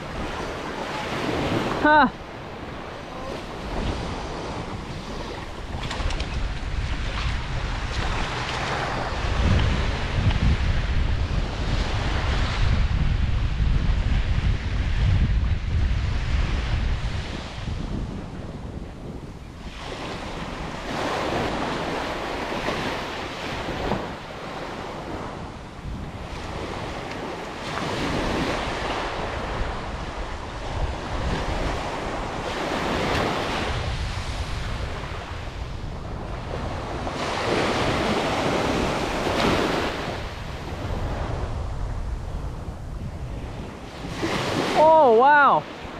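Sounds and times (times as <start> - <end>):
surf washing up a sandy beach: 0.0 - 45.9
wind rumbling on microphone: 0.0 - 45.9.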